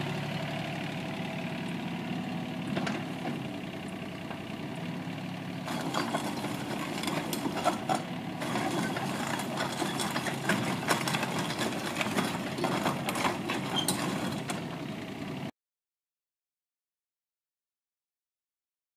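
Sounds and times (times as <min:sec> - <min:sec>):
excavator engine running: 0:00.0 - 0:15.5.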